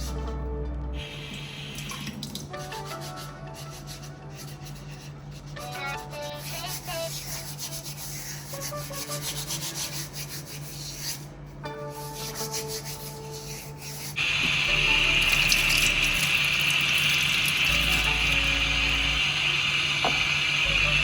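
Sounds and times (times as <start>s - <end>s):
soft background music: 0.0s - 21.0s
loud rubbing noise: 2.6s - 11.4s, 12.0s - 21.0s.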